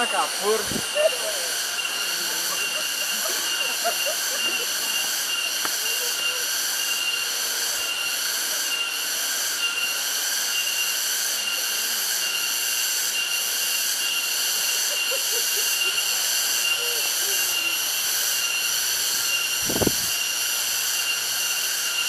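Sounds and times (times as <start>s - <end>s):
insects chorus: 0.0s - 22.0s
thin high whine: 0.0s - 22.0s.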